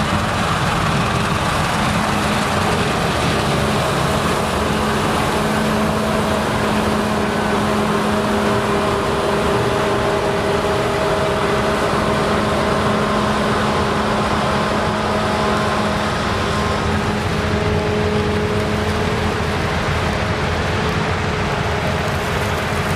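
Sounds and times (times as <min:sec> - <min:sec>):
combine harvester drone: 0:00.0 - 0:22.9.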